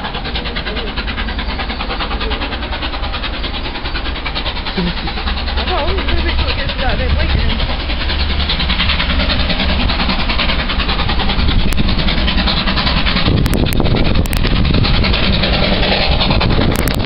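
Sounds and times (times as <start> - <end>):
steam train passing: 0.0 - 17.0.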